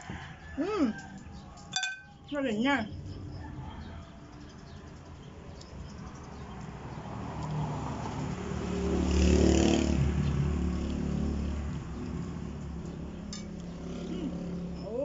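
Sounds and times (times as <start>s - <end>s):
vehicle passing by: 2.9s - 15.0s.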